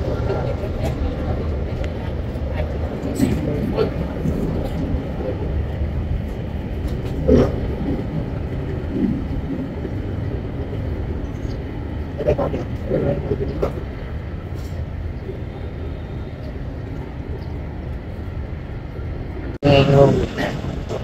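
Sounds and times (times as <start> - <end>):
jet airliner landing rumble: 0.0 - 21.0.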